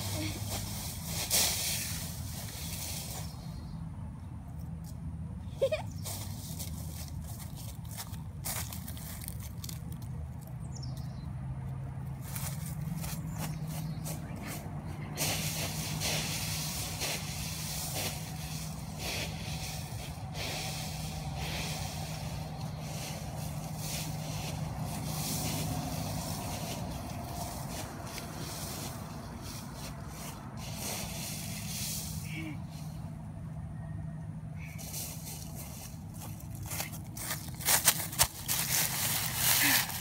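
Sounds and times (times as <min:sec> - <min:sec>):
dry leaves rustling and crunching: 0:00.0 - 0:03.6, 0:06.0 - 0:11.1, 0:12.0 - 0:32.9, 0:34.6 - 0:40.0.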